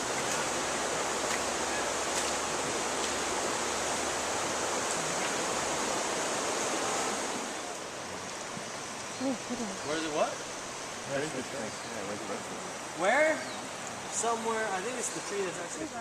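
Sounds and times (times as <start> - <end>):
water flowing: 0.0 - 16.0.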